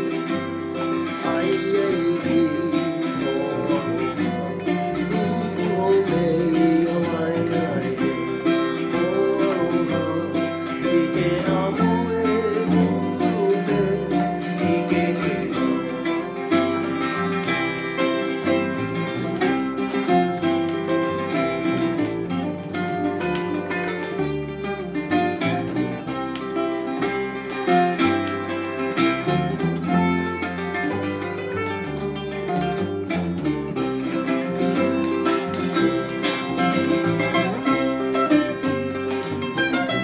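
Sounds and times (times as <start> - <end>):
strummed string chords: 0.0 - 40.0.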